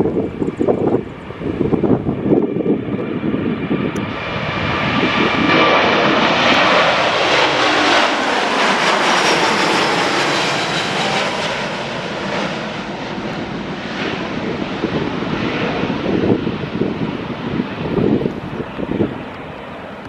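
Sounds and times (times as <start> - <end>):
jet engine roar: 0.0 - 20.0
wind buffeting microphone: 0.0 - 20.0.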